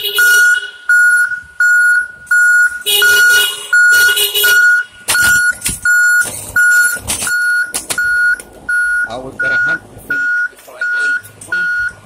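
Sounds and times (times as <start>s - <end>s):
backup alarm beeping: 0.1s - 12.0s.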